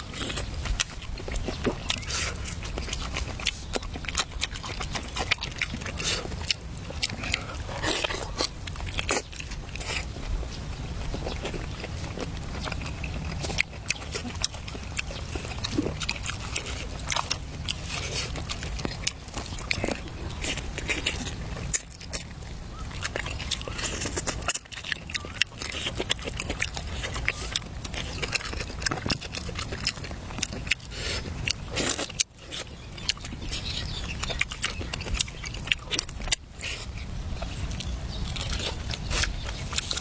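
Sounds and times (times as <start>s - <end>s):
chewing and crunching food: 0.0s - 40.0s.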